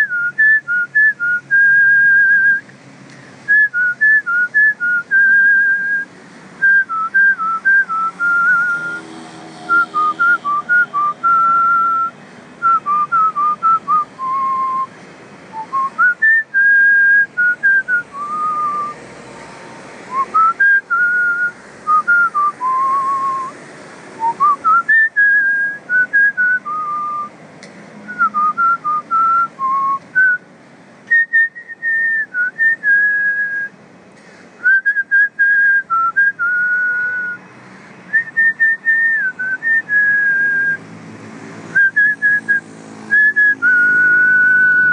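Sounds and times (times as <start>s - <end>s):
whistled tune: 0.0s - 2.6s, 3.5s - 9.0s, 9.7s - 14.9s, 15.6s - 19.0s, 20.1s - 23.5s, 24.2s - 27.3s, 28.1s - 30.4s, 31.1s - 33.7s, 34.6s - 37.4s, 38.1s - 40.8s, 41.8s - 44.9s.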